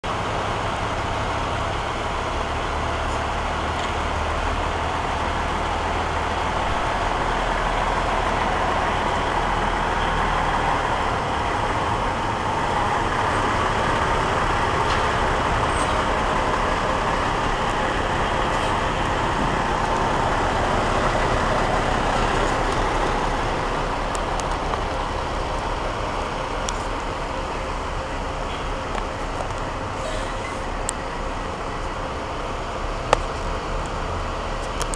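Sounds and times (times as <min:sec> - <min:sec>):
diesel truck driving past: 0:00.0 - 0:34.9.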